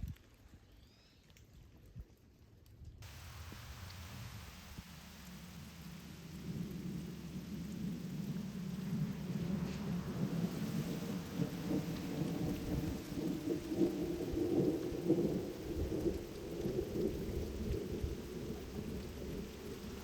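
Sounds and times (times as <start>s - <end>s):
steady rain falling: 0.0s - 20.0s
low rumbling noise: 3.0s - 20.0s.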